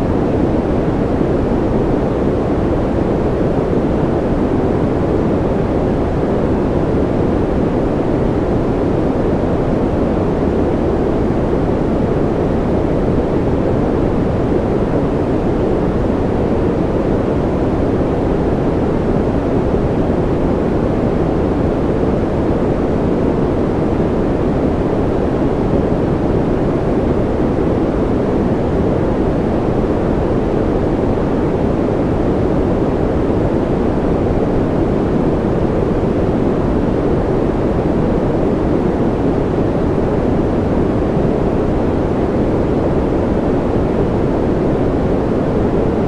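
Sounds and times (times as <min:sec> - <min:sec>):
deep white noise: 0:00.0 - 0:46.0.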